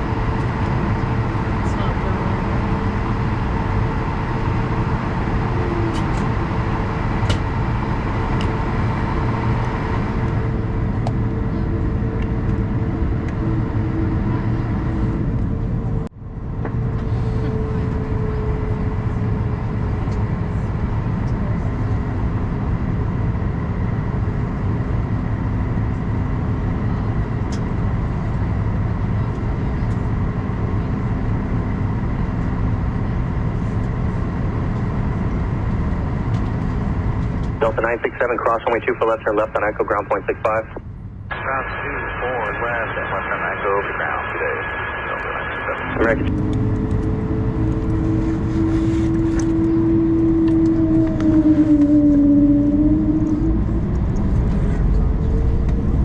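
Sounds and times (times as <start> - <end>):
constant whine tone: 0.0 - 56.0
jet engine cabin rumble: 0.0 - 56.0.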